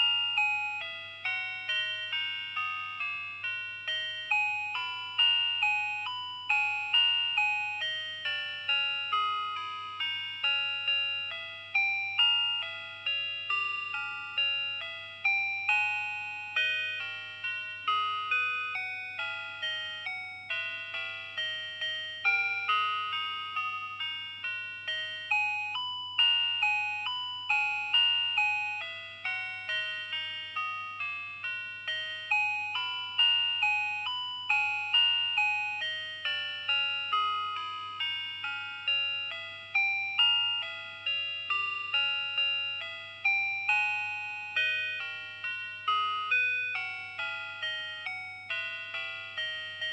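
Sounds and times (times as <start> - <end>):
electronic watch melody: 0.0 - 49.9.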